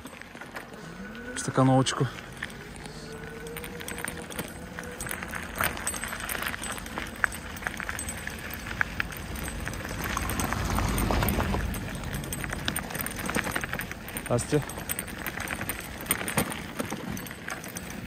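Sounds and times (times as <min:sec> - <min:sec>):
bicycle tyres crunching on gravel: 0:00.0 - 0:18.0
car passing on gravel: 0:00.0 - 0:18.0.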